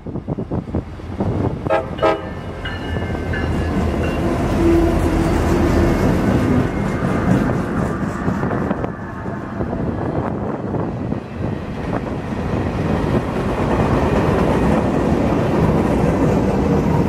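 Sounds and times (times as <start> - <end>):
diesel locomotive engines rumbling: 0.0 - 17.0
freight cars rolling on rails: 0.2 - 17.0.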